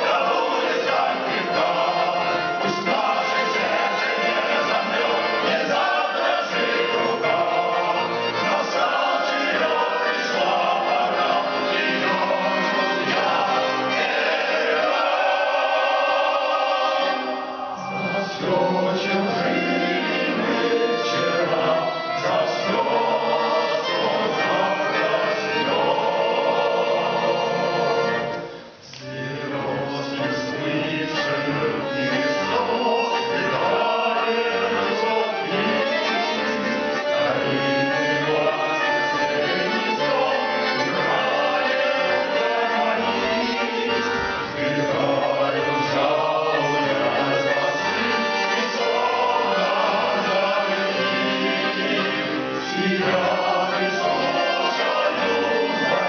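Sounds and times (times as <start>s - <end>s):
male vocal ensemble singing: 0.0s - 56.0s.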